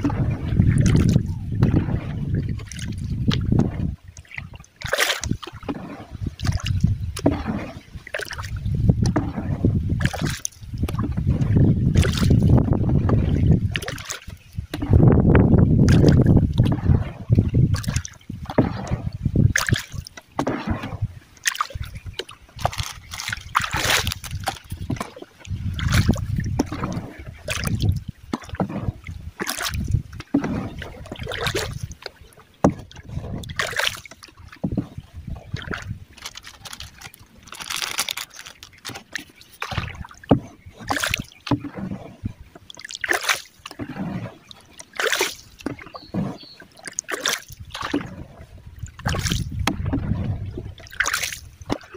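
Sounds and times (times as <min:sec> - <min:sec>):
paddle splashing in water: 0:00.0 - 0:51.9.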